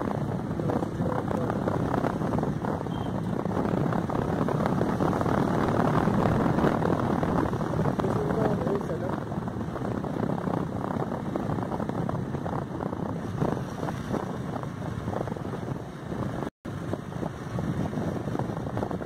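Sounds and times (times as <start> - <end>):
motorcycle engine running: 0.0 - 19.0
road noise: 0.0 - 19.0
wind buffeting microphone: 0.0 - 19.0.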